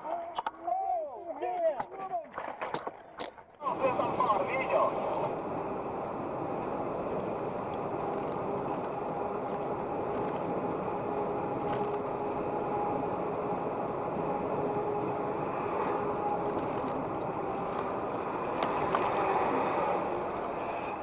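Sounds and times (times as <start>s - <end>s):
vehicle engine and road noise: 1.6s - 21.0s.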